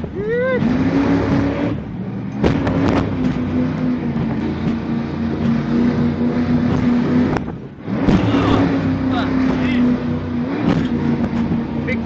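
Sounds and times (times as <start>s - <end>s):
speedboat engines running: 0.0s - 12.0s
wind and water rushing: 0.0s - 12.0s.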